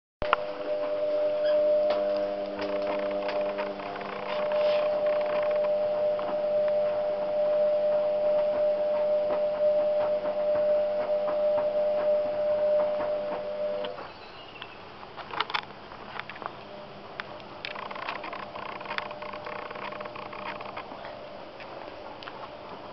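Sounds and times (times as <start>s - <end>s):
machine hum: 0.2s - 14.2s, 15.5s - 22.9s.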